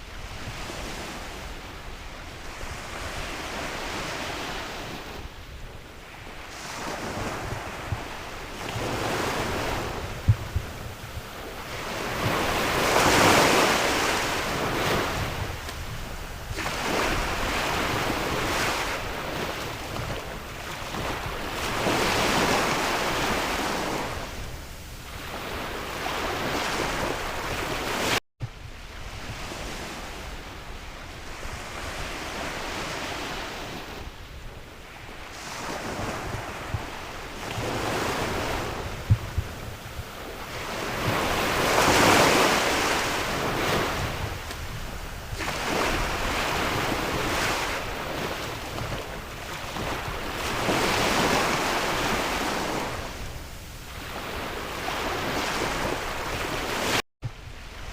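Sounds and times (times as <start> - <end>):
sea waves breaking on shore: 0.0 - 57.9
wind buffeting microphone: 0.0 - 57.9.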